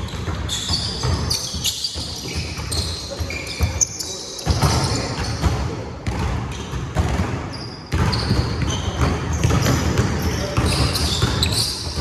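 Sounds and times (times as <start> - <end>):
basketball bouncing on court: 0.0 - 12.0
sneaker squeaks: 0.0 - 12.0.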